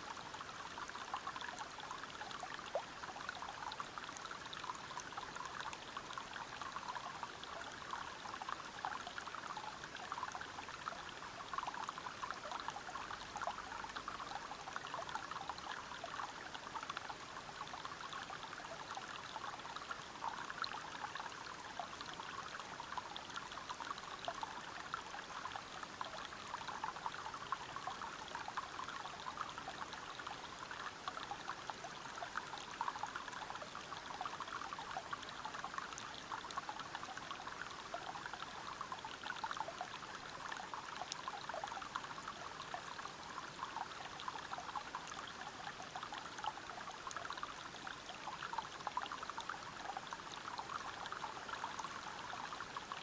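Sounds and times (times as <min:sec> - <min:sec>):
stream water splashing over rocks: 0:00.0 - 0:53.0.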